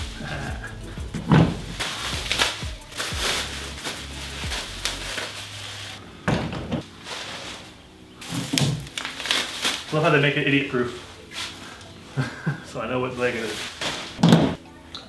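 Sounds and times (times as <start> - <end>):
background music: 0.0 - 15.0
plastic wrapping rustling: 0.2 - 6.0, 6.8 - 14.6.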